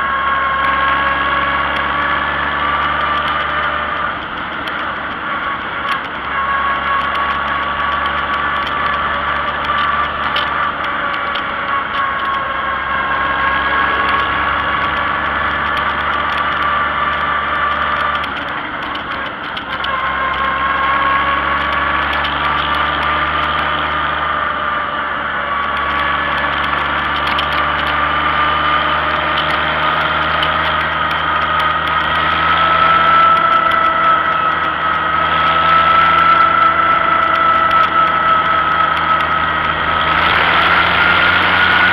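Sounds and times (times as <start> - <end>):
tractor engine running: 0.0 - 41.9
wavering whine: 0.0 - 41.9.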